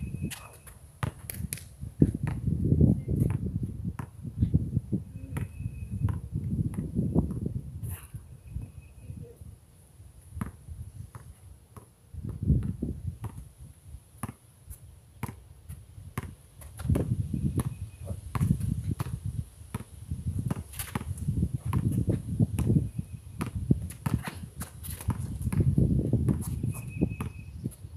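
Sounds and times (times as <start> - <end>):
basketball bouncing on asphalt: 0.0 - 4.3, 5.3 - 7.6, 10.3 - 13.5, 14.2 - 27.5.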